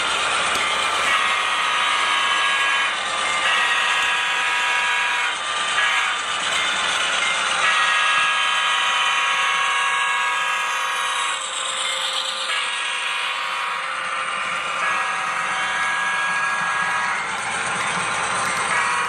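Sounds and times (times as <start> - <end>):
model train running on track: 0.0 - 19.0
model locomotive horn blasts: 0.5 - 6.7, 7.5 - 11.5, 12.4 - 17.8, 18.5 - 19.0.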